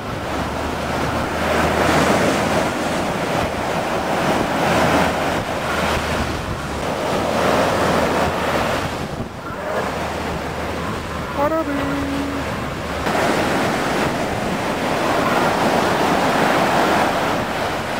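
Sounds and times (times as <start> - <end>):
jet ski engine drone: 0.0 - 17.9
rushing water: 0.0 - 17.9
wind noise on microphone: 0.0 - 17.9.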